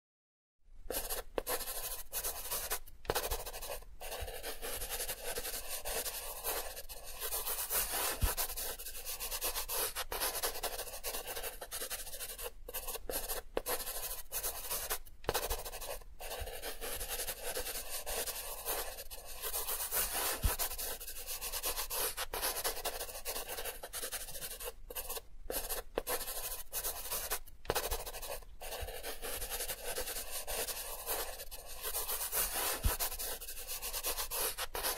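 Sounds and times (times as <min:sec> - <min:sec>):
pencil scratching on paper: 0:00.9 - 0:34.9.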